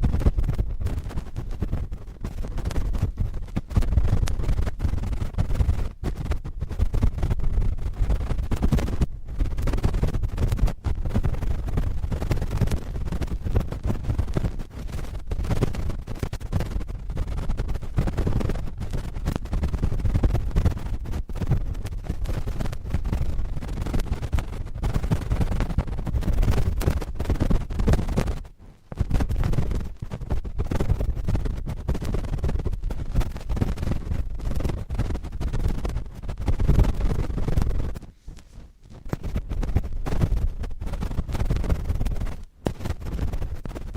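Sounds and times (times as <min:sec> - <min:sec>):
cotton swabs scratching microphone: 0:00.0 - 0:43.9.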